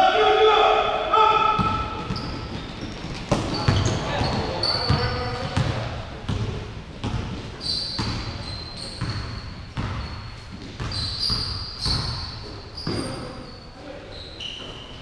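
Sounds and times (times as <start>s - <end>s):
sneakers squeaking: 1.6s - 15.0s.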